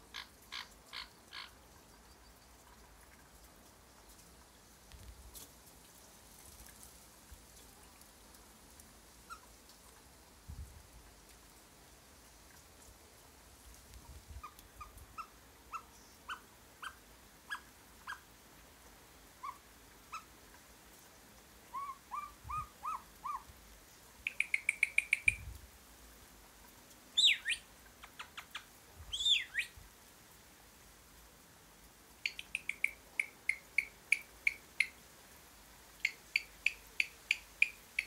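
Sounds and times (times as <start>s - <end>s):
rain hiss: 0.0s - 38.0s.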